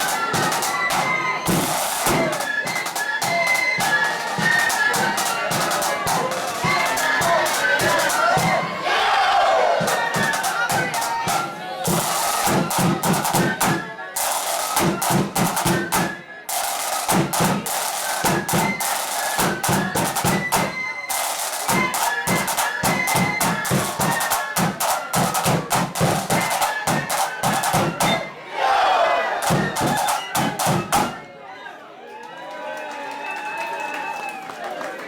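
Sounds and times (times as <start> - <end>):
rapid snare drumming: 0.0 - 28.3, 29.3 - 31.2
high flute melody: 0.0 - 31.5.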